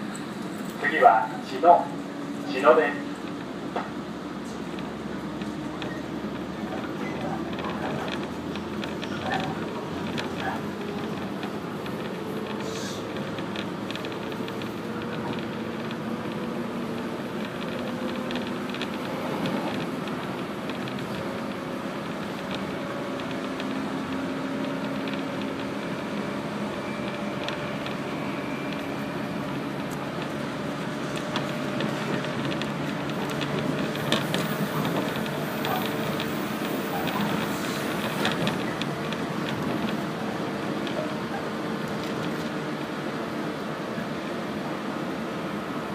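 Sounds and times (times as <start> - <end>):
train wheels rumbling on rails: 0.0 - 45.9
wheels clattering over track: 3.0 - 43.8.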